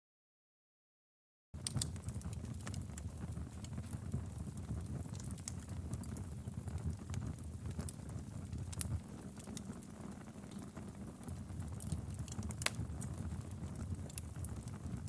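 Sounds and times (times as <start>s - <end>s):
rumble of flames: 1.6s - 15.0s
wood fire crackling and popping: 1.6s - 15.0s.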